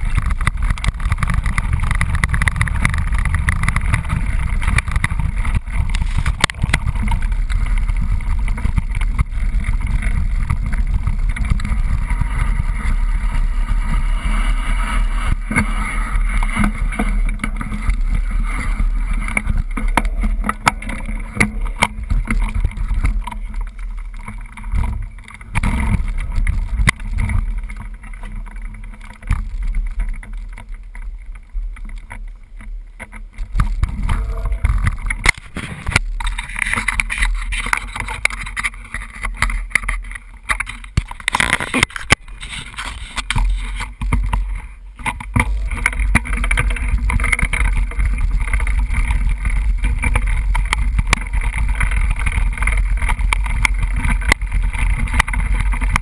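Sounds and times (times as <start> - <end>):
bike rattling and knocking: 0.0 - 56.0
wind rumble on microphone: 0.0 - 56.0.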